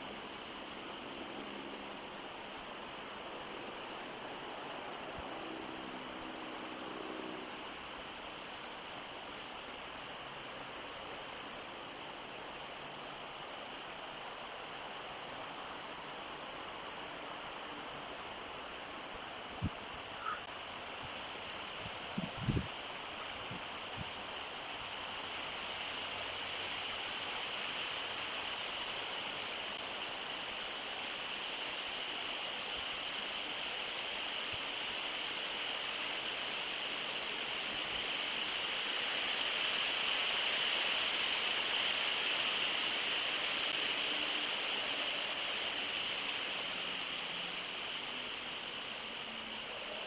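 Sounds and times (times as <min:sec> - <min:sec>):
outdoor background hiss: 0:00.0 - 0:50.0.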